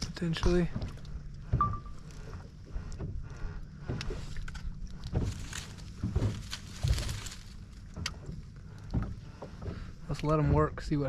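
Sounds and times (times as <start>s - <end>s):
low thumps and knocks in boat: 0.0s - 11.0s.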